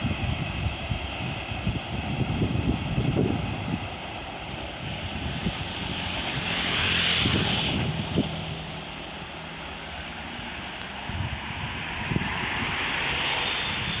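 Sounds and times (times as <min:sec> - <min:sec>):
train wheels on track: 0:00.0 - 0:14.0.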